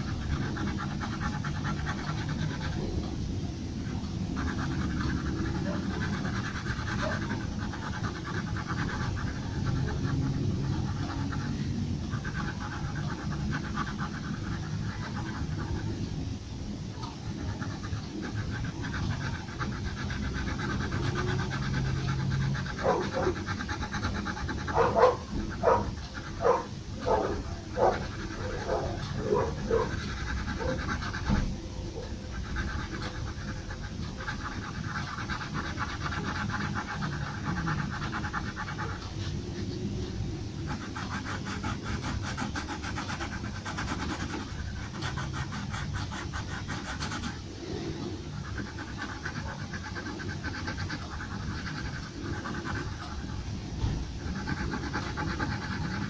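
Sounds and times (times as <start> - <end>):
pencil scratching on paper: 0.0 - 56.0
steady background hum: 0.0 - 56.0.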